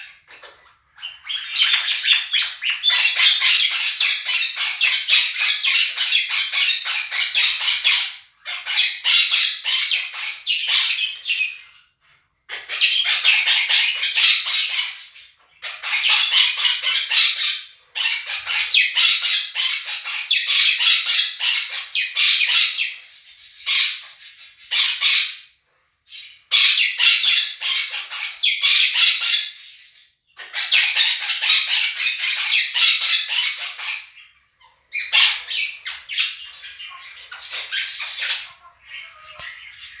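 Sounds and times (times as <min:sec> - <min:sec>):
budgerigar flock chatter: 0:00.0 - 0:11.6, 0:12.5 - 0:23.0, 0:26.2 - 0:29.7, 0:30.4 - 0:40.0
parakeets screeching: 0:00.0 - 0:11.9, 0:12.5 - 0:25.5, 0:26.1 - 0:40.0.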